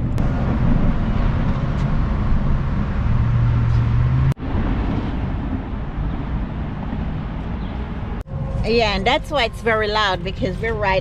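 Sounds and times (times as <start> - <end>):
deep engine hum: 0.0 - 11.0
freeway traffic rumble: 0.0 - 11.0.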